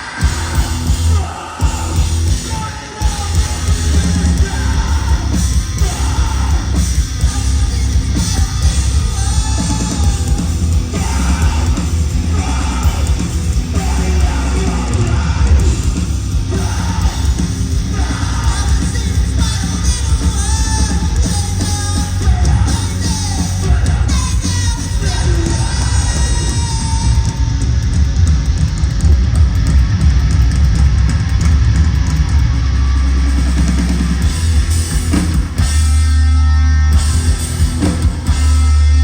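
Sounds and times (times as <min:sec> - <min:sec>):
singer yelling and singing: 0:00.0 - 0:27.9, 0:33.7 - 0:39.0
live rock band playing: 0:00.0 - 0:39.0.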